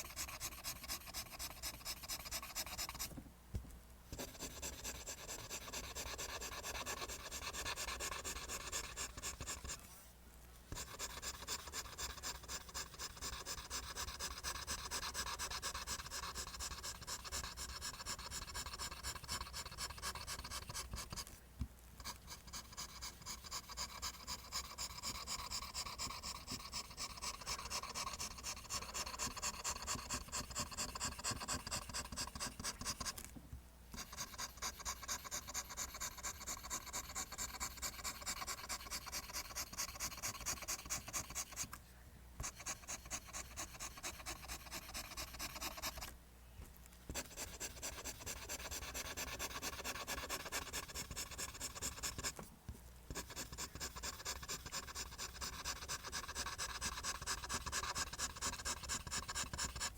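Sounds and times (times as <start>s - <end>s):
pencil scratching on paper: 0.0s - 3.1s, 4.1s - 9.8s, 10.7s - 21.4s, 22.0s - 33.3s, 33.9s - 41.8s, 42.4s - 46.1s, 47.1s - 52.5s, 53.1s - 59.9s.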